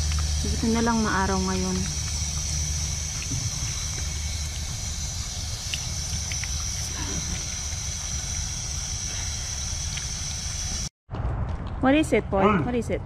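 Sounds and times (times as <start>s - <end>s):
hose nozzle spraying water: 0.0s - 10.9s
low rumble: 0.0s - 13.0s.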